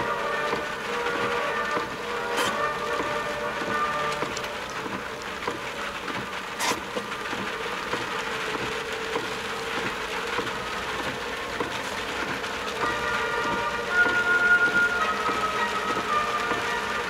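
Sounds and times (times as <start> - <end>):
tyre and rain noise in car: 0.0 - 17.0
windscreen wipers: 0.0 - 17.0.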